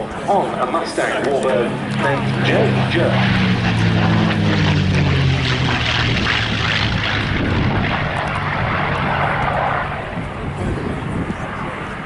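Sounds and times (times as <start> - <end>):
aircraft rushing noise: 0.0 - 12.0
propeller aircraft engine: 0.0 - 12.0.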